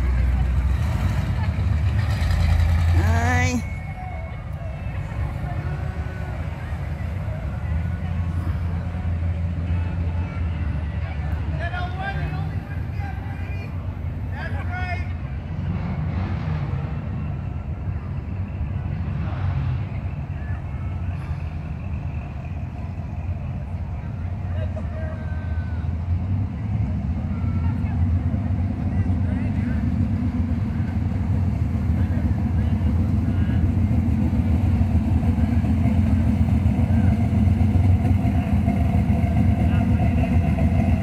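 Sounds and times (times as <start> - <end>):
cars driving past: 0.0 - 41.0.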